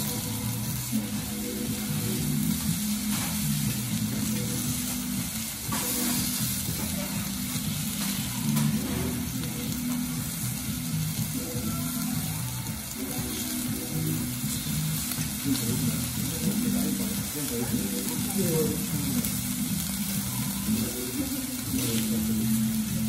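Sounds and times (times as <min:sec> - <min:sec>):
beef sizzling on griddle: 0:00.0 - 0:23.0
soft background music: 0:00.0 - 0:23.0.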